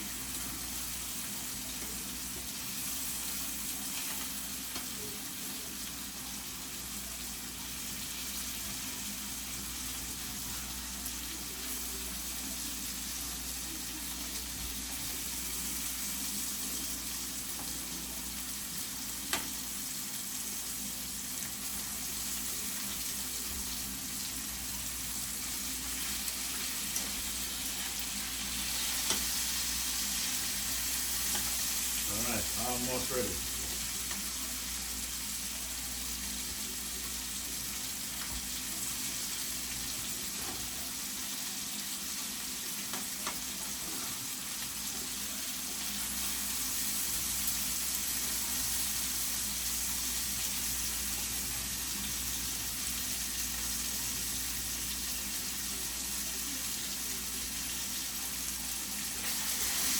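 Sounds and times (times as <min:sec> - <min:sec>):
chicken sizzling in a pan: 0:00.0 - 0:59.9.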